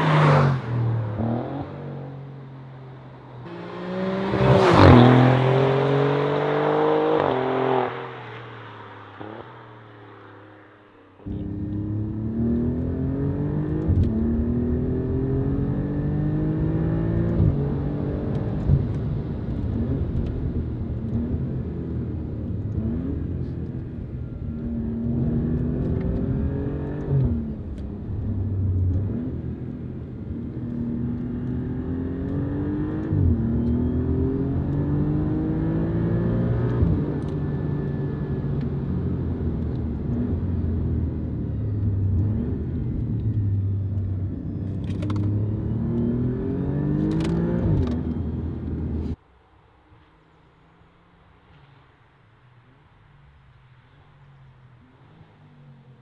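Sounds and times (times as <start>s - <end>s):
car engine accelerating through gears: 0.0s - 10.0s, 11.2s - 49.2s.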